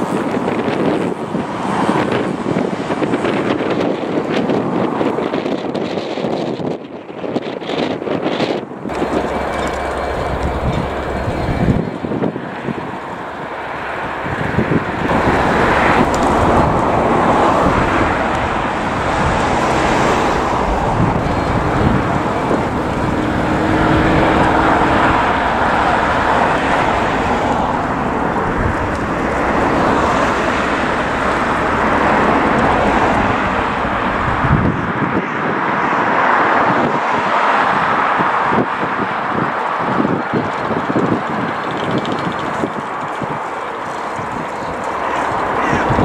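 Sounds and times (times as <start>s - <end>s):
diesel locomotive engines rumbling: 0.0s - 46.0s.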